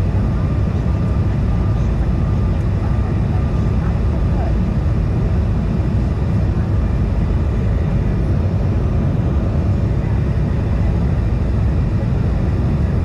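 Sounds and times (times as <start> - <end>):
jet cabin engine rumble: 0.0 - 13.0.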